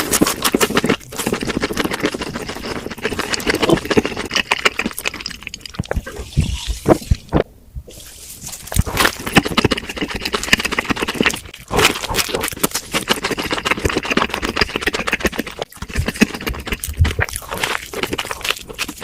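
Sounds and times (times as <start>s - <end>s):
chewing crispy food: 0.0s - 7.4s, 8.5s - 19.0s.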